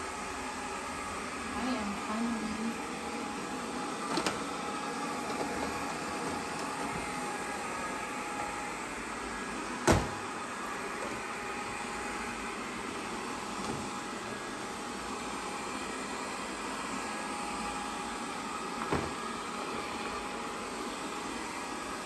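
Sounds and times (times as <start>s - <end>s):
robot vacuum whirring: 0.9s - 22.0s.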